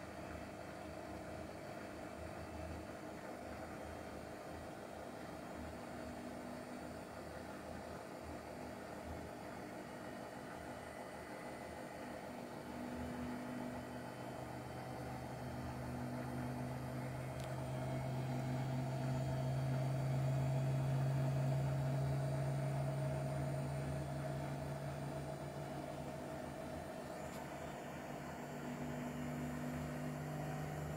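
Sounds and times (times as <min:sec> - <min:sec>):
washing machine spinning: 0:00.0 - 0:30.9.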